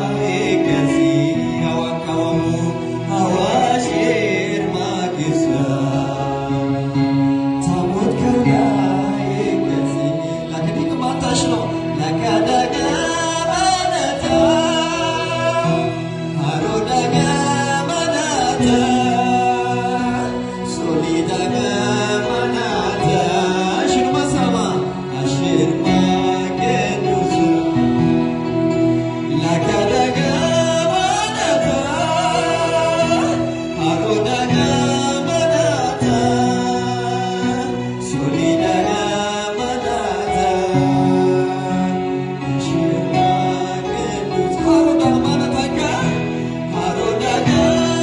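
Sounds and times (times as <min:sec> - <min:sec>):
man singing into a microphone: 0:00.0 - 0:48.0.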